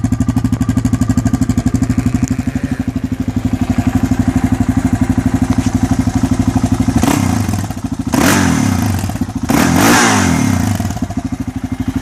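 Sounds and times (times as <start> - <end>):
quad engine idling and revving: 0.0 - 12.0.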